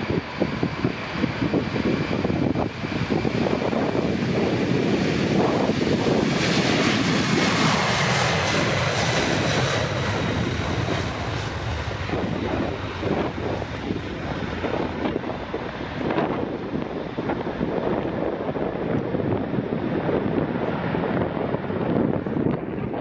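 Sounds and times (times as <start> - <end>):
jet engines roaring: 0.0 - 23.0
turbine whine: 0.0 - 23.0.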